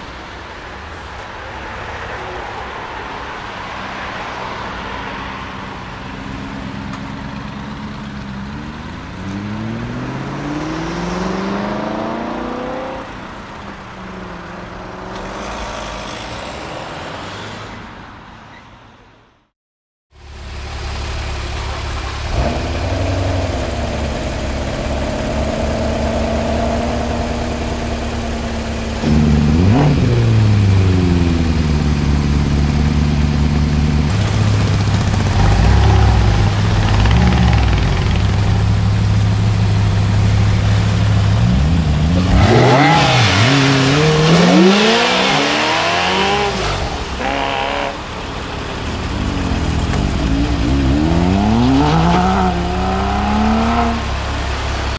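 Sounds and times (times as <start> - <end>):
car engine idling and revving: 0.0 - 18.4, 20.1 - 54.9.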